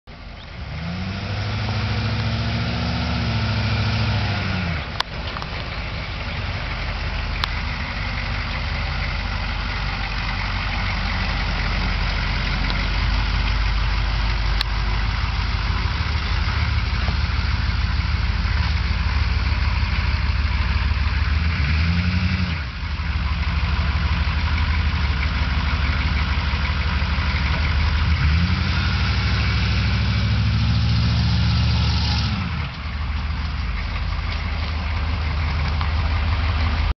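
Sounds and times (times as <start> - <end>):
diesel truck engine revving: 0.1 - 36.9.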